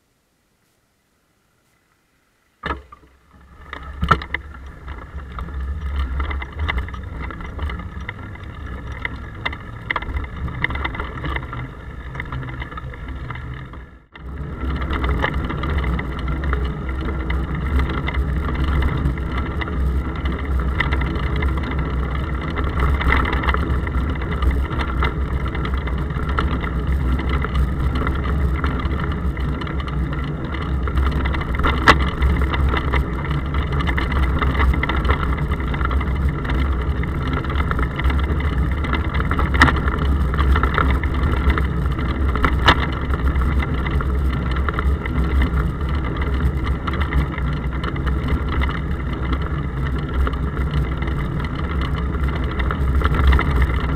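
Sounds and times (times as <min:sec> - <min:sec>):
low rumble of road vibration: 0:00.0 - 0:53.9
bike ticks and rattles: 0:02.6 - 0:53.9.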